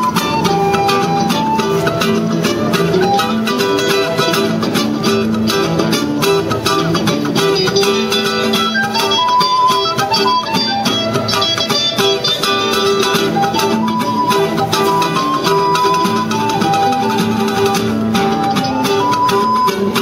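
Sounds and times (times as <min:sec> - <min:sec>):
plucked string music: 0:00.0 - 0:20.0.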